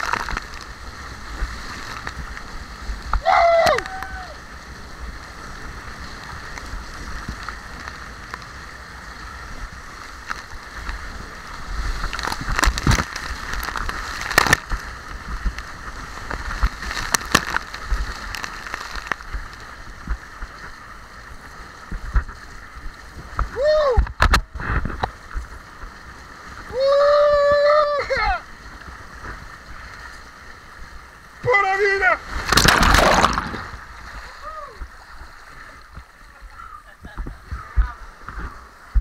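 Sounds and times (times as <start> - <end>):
water rushing down slide: 0.0 - 36.4.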